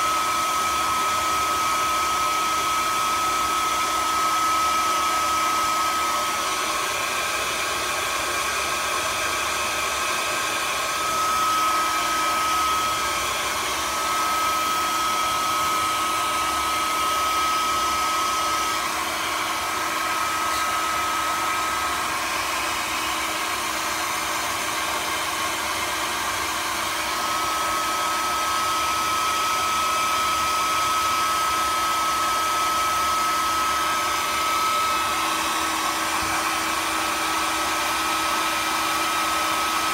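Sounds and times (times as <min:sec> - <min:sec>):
thin high motor whine: 0:00.0 - 0:39.6
electric blower rushing air: 0:00.0 - 0:39.9.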